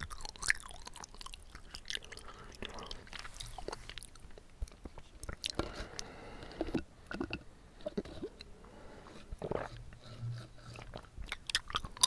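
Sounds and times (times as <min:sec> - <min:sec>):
chewing tapioca pearls: 0:00.0 - 0:08.5, 0:10.6 - 0:12.0.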